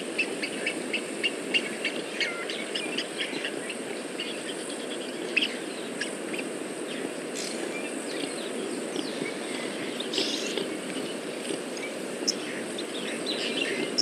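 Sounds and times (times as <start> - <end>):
high insect hum: 0.0 - 14.0.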